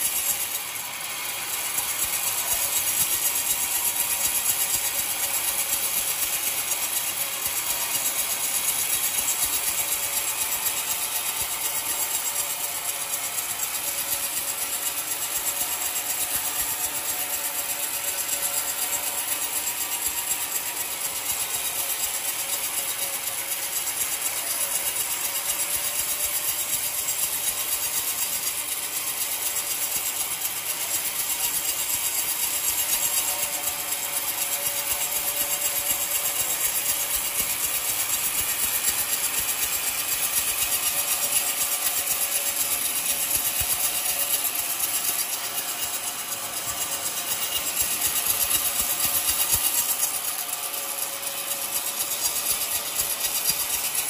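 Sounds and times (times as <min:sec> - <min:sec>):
faint sawmill whine: 0:00.0 - 0:54.0
saw blade cutting through log: 0:00.0 - 0:54.0.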